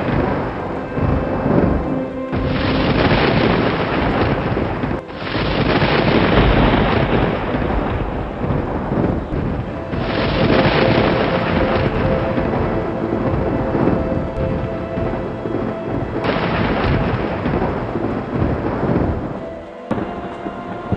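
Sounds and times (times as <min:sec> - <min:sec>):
rain hiss: 0:00.0 - 0:20.9
soft sustained music notes: 0:00.0 - 0:20.9
thunder rolling: 0:00.0 - 0:20.9.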